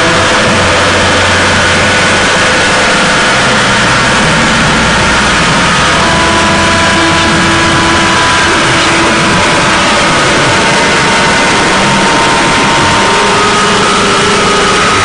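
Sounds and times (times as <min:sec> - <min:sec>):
distorted noise wall: 0:00.0 - 0:15.0
droning tones: 0:00.0 - 0:15.0.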